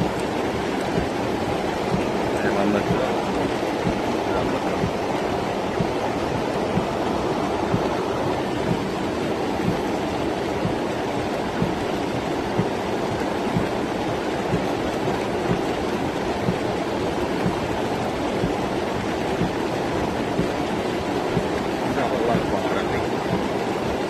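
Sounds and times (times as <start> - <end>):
flood water rushing along street: 0.0 - 24.0.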